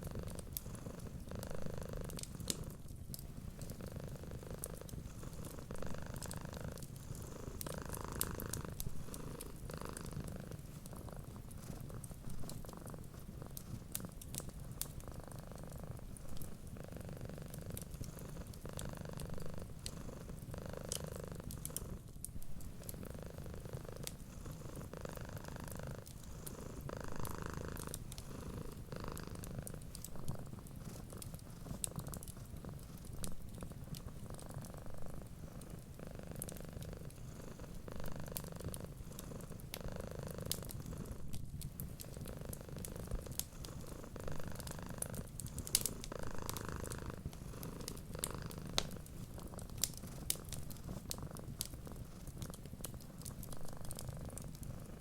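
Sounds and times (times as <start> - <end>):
wood fire crackling: 0.0 - 1.4, 2.0 - 55.0
cat purring: 0.0 - 55.0.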